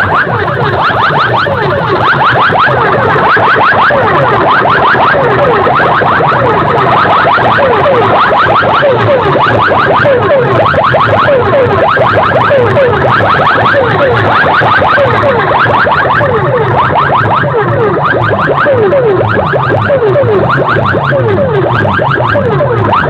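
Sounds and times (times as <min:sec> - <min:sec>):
electronic siren-like whoops: 0:00.0 - 0:23.0
falling electronic sweeps: 0:00.0 - 0:23.0
pulsing bass: 0:00.0 - 0:23.0.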